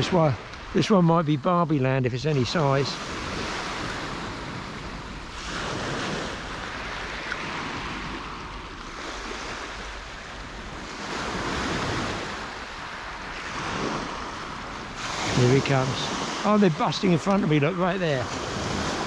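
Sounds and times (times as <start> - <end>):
waves washing over shingle beach: 0.0 - 19.0.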